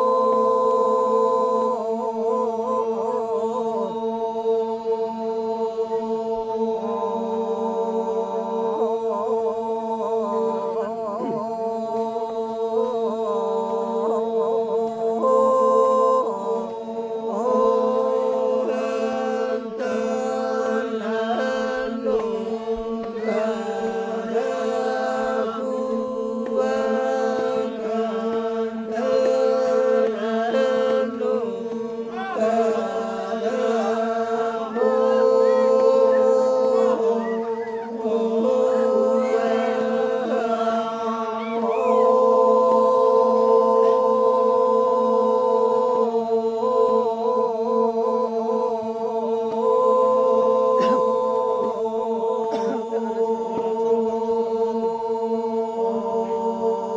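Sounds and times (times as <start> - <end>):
men singing in unison: 0.0 - 56.9.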